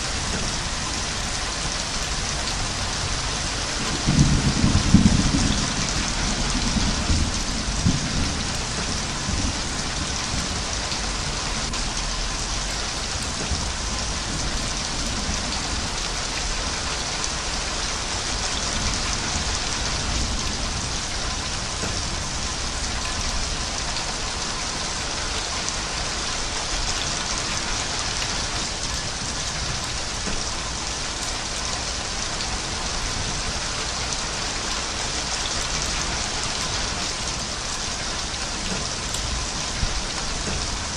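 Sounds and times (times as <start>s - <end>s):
heavy rain falling: 0.0s - 40.9s
low rumble of thunder: 0.1s - 40.9s.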